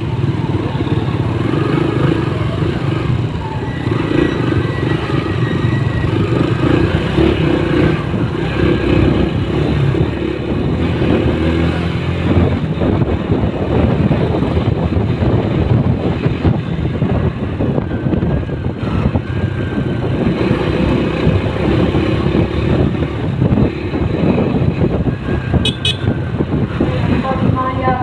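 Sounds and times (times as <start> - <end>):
passing traffic: 0.0 - 28.0
vehicle rumble on road: 0.0 - 28.0
wind buffeting microphone: 0.0 - 28.0.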